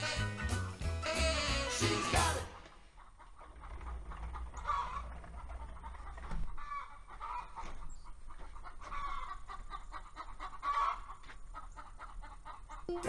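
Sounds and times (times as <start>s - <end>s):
chickens clucking: 1.8s - 13.0s.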